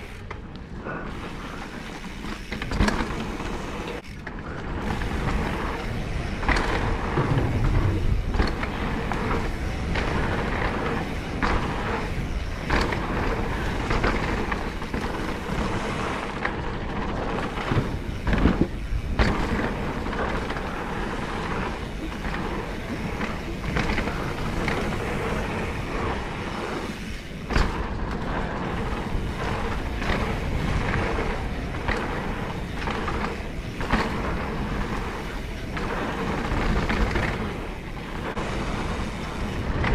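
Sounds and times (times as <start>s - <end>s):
bike rattling over bumps: 0.0s - 39.9s
tyre noise on packed dirt: 0.0s - 39.9s
wind rush over microphone: 4.5s - 39.9s.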